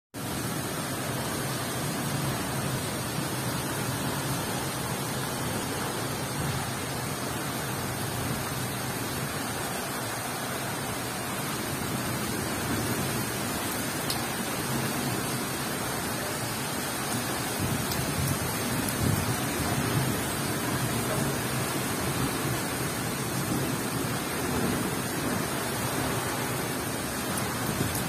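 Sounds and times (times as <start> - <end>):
heavy rain pouring: 0.2 - 28.0.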